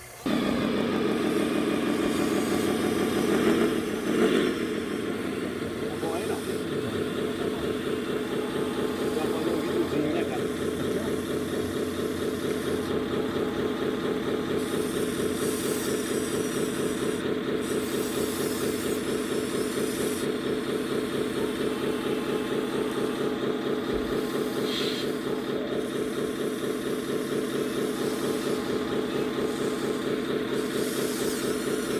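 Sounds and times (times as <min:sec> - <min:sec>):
simulated diesel engine idling: 0:00.0 - 0:31.9.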